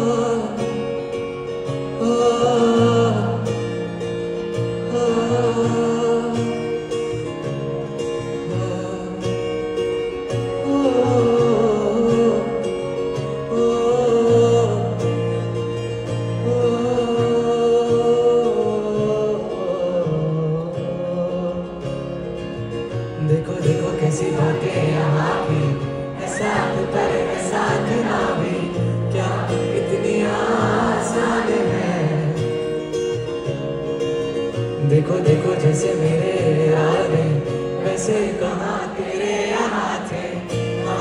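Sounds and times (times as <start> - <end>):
crowd singing along: 0.0 - 20.2, 23.2 - 41.0
acoustic guitar: 0.0 - 41.0.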